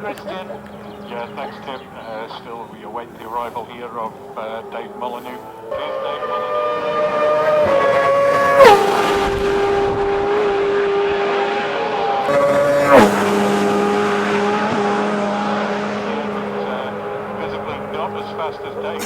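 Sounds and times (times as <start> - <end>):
racing sidecar engines passing: 0.0 - 19.0.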